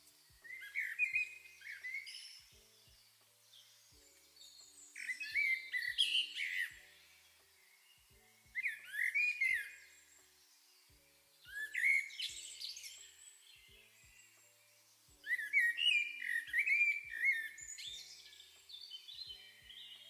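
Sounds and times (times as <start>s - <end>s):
soft background music: 0.0s - 20.0s
bird-like chirps and whistles: 0.3s - 3.0s, 3.6s - 20.0s.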